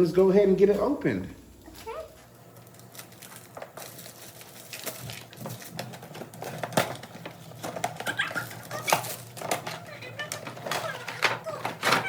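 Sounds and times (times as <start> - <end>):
packaging crinkling and rustling: 1.7 - 12.0.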